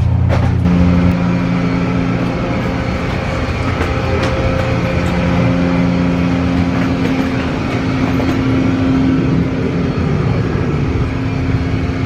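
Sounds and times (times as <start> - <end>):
airliner cabin noise: 0.0 - 12.0
low hum: 0.0 - 12.0.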